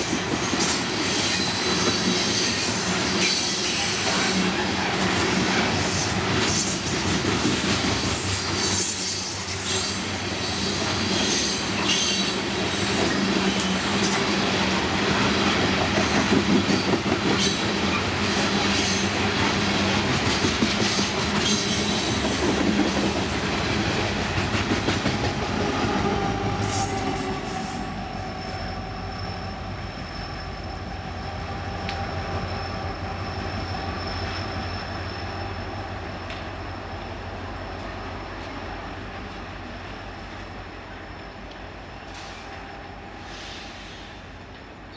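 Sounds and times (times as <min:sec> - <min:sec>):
train wheels rumbling: 0:00.0 - 0:44.9.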